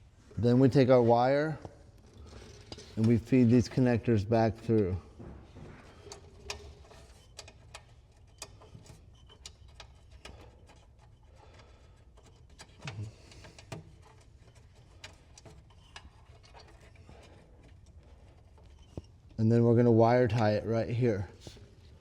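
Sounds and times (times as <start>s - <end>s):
cable clicking and rubbing: 1.6s - 19.4s, 20.0s - 22.0s.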